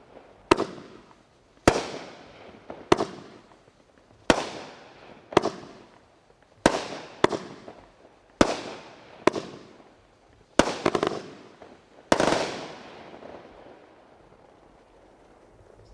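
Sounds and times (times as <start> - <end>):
firework bangs: 0.0 - 15.9
firework crackle: 0.0 - 15.9.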